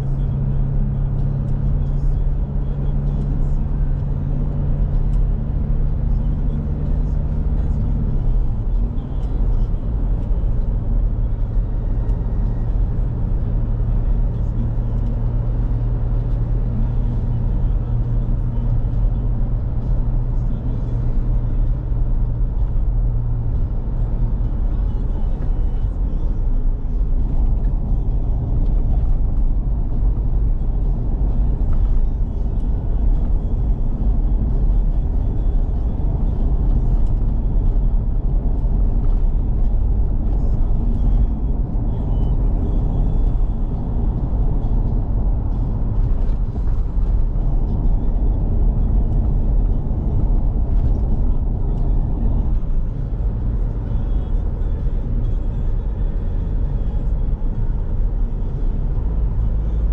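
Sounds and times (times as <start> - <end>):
car engine running: 0.0 - 59.9
tyres rumbling on road: 0.0 - 59.9.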